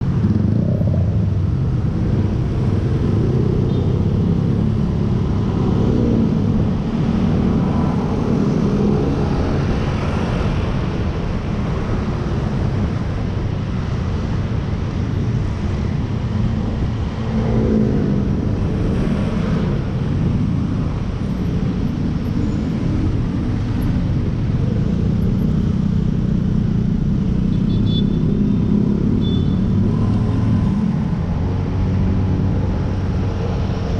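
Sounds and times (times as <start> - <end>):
road noise rumble: 0.0 - 33.9.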